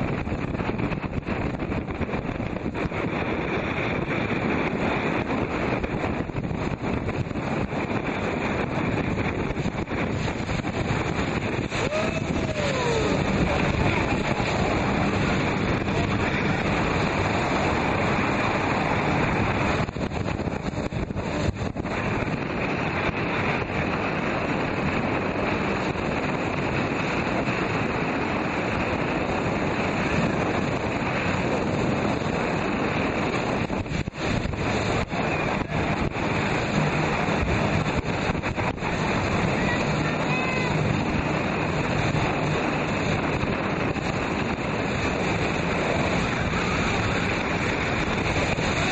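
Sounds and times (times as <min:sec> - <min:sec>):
churning water rushing: 0:00.0 - 0:48.9
wind buffeting microphone: 0:00.0 - 0:48.9.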